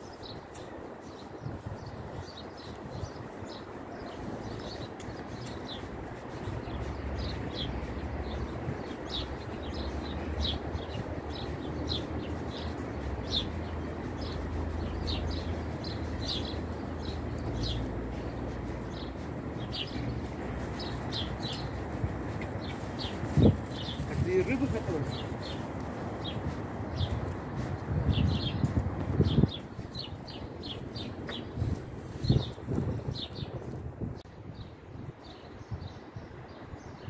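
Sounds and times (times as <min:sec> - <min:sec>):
songbird chirping: 0:00.0 - 0:37.0.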